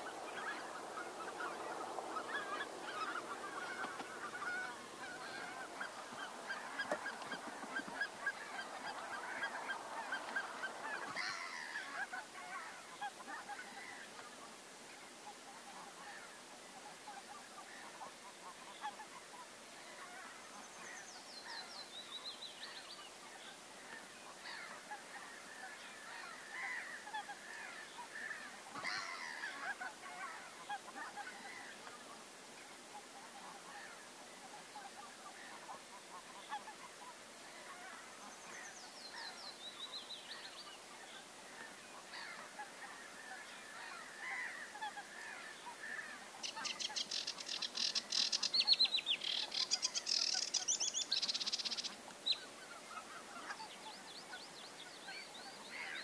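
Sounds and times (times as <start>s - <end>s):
geese honking: 0.0s - 14.4s, 15.2s - 16.4s, 17.0s - 20.5s, 23.8s - 39.3s, 41.5s - 53.9s.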